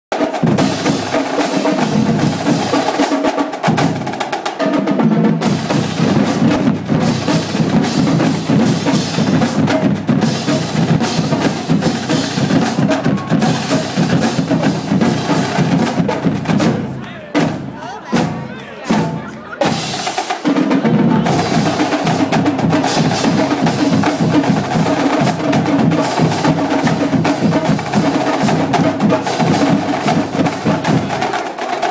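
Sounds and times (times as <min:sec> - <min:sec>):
marching drumline cadence: 0:00.1 - 0:31.9.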